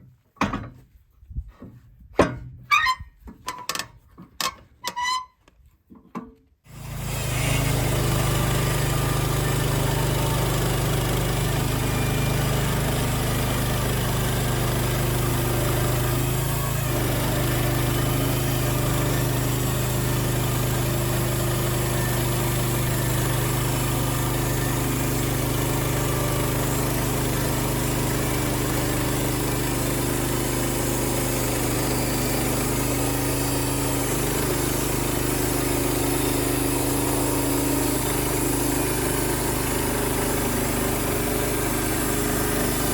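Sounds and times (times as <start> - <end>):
sawmill engine running: 6.7 - 42.9.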